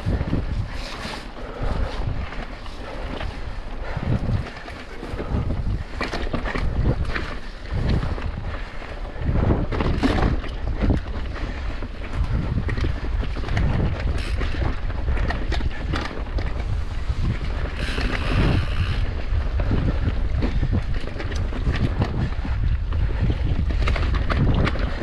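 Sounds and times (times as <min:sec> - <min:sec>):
bike rattling over bumps: 0:00.0 - 0:25.0
wind buffeting microphone: 0:00.0 - 0:25.0.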